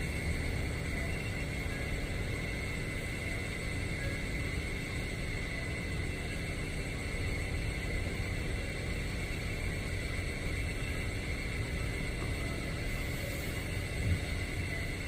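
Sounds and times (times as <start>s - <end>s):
high-pitched whine: 0.0s - 15.0s
low machinery rumble: 0.0s - 15.0s.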